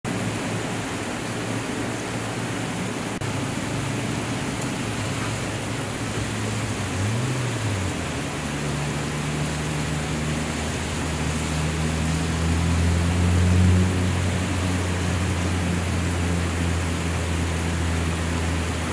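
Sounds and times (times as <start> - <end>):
heavy rain pouring: 0.1 - 18.9.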